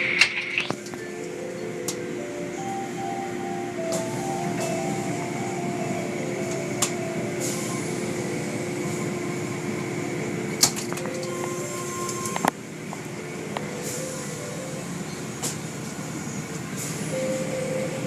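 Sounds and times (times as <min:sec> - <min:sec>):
car wash machinery humming: 0:00.0 - 0:18.0.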